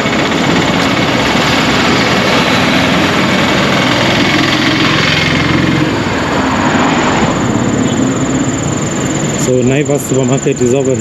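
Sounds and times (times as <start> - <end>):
close engine running: 0.0 - 11.0
rush of passing vehicles: 0.0 - 11.0.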